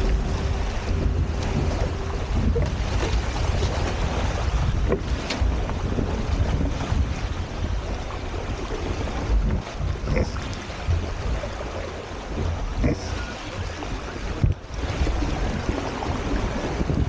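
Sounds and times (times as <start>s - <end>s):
water splashing along hulls: 0.0s - 17.0s
wind buffeting microphone: 0.0s - 17.0s.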